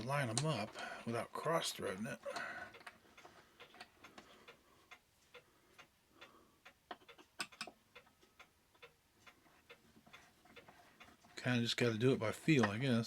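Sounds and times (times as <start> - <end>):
mechanical clock ticking: 0.0 - 13.0.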